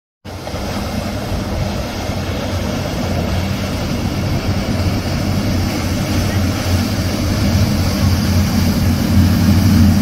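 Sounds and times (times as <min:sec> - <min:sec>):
boat engines droning: 0:00.3 - 0:10.0.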